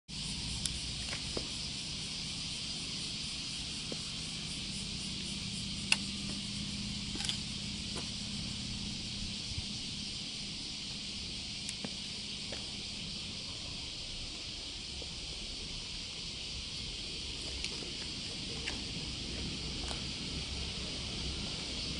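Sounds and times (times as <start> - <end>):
insects droning: 0.1 - 21.9
faint low hum: 0.2 - 21.9.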